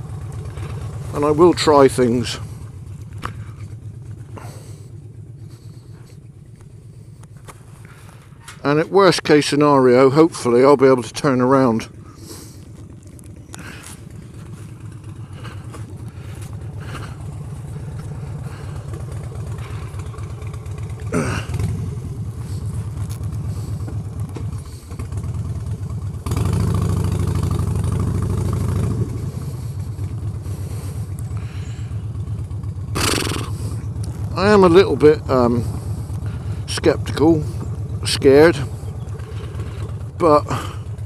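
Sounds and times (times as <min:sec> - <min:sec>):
motorcycle engine: 0:00.0 - 0:41.0.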